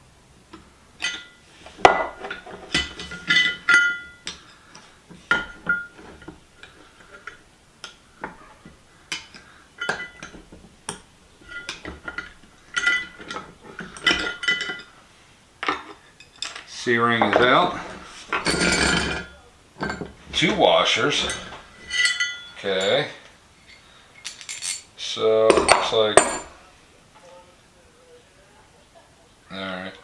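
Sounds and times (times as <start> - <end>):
steel parts clinking and scraping: 0.5 - 26.6.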